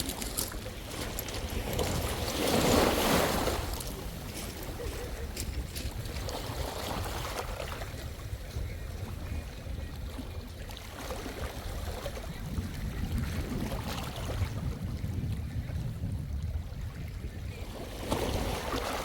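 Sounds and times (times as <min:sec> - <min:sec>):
sea water lapping in shallows: 0:00.0 - 0:19.0
wind rumbling on microphone: 0:00.0 - 0:19.0.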